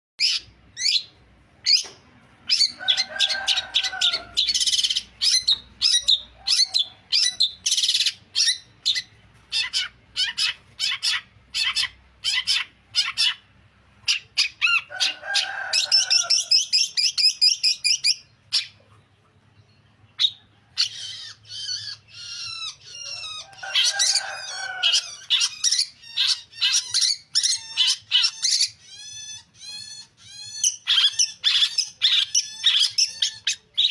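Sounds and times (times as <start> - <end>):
bird trill: 0.2 - 33.9
harsh low bird calls: 0.2 - 33.9.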